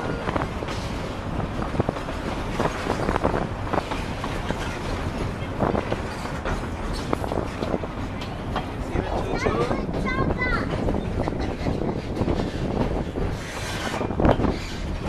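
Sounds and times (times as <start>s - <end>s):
train rumbling on track: 0.0s - 15.0s
train wheels clicking and clacking: 0.0s - 15.0s.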